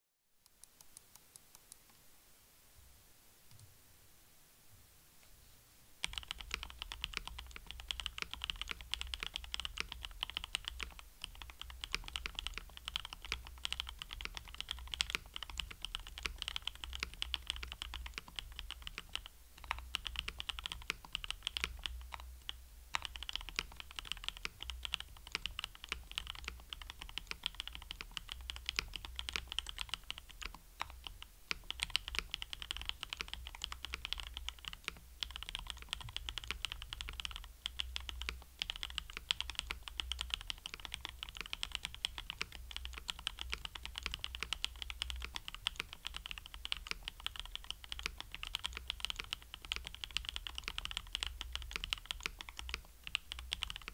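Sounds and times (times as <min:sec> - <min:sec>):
mechanical keyboard typing: 0:06.0 - 0:53.9.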